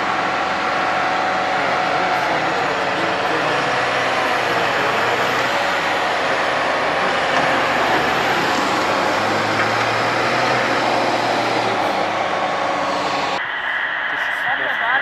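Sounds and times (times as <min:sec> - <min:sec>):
tractor engine under load: 0:00.0 - 0:13.4.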